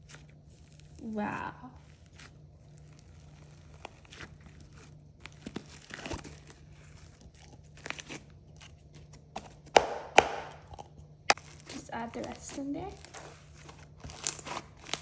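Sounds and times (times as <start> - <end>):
slime squished by hand: 0.0 - 15.0.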